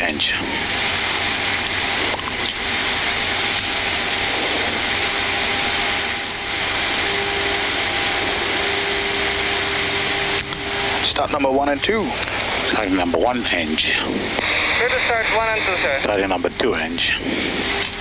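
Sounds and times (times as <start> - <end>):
jet engines spinning up: 0.0 - 18.0
steady low tone: 0.0 - 18.0.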